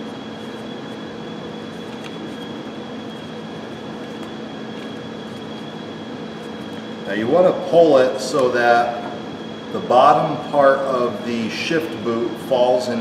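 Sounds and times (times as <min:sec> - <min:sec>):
faint high whine: 0:00.0 - 0:13.0
ventilation fan humming: 0:00.0 - 0:13.0.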